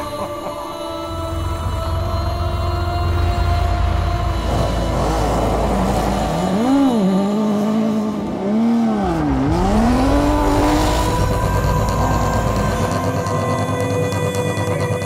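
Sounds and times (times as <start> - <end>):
car engine revving: 1.4 - 15.0.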